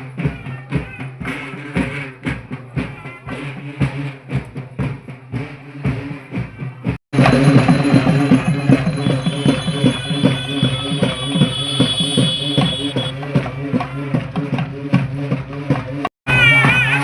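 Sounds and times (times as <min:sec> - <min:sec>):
drum strikes: 0:00.0 - 0:17.0.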